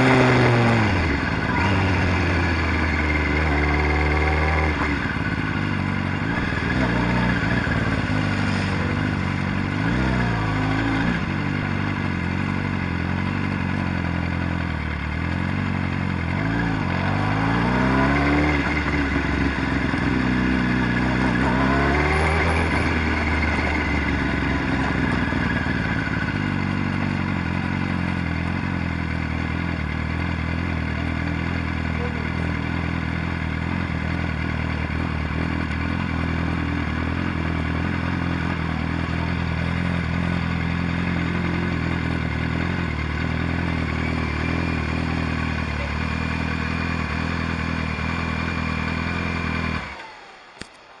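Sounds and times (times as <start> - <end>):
motorcycle engine revving and idling: 0.0 - 51.0.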